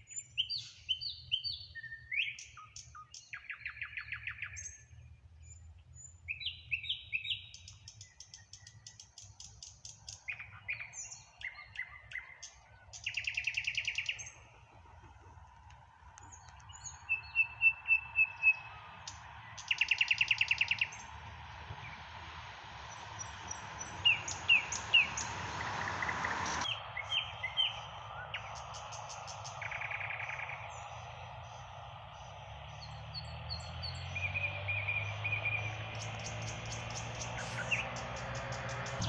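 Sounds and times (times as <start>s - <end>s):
nightingale singing: 0.0s - 14.9s, 16.1s - 39.0s.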